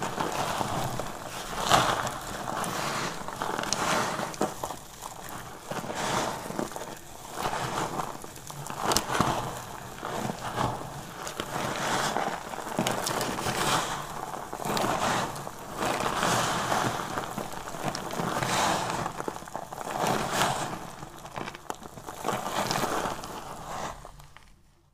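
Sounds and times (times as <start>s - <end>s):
hands sifting crumbled soap: 0.0s - 24.9s.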